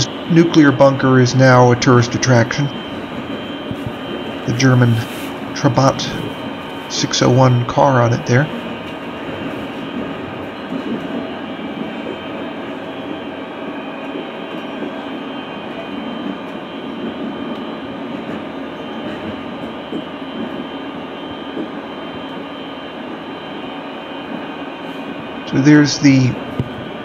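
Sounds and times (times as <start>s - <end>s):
faint steady tones: 0.0s - 27.0s
tram rolling noise: 0.0s - 27.0s.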